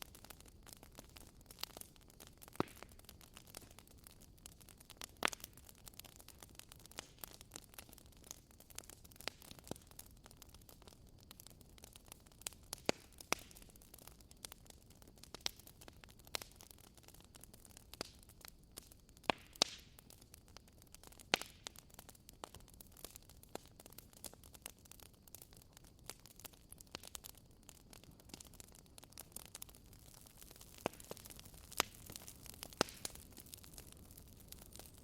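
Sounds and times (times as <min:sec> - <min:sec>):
faint steady hiss: 0:00.0 - 0:35.0
wood fire crackling and popping: 0:00.0 - 0:35.0.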